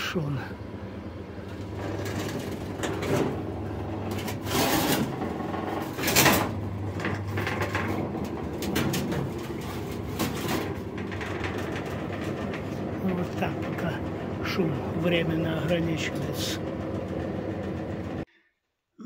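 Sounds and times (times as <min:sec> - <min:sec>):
electric fan humming: 0:00.0 - 0:18.3
clattering and rustling: 0:01.4 - 0:18.2.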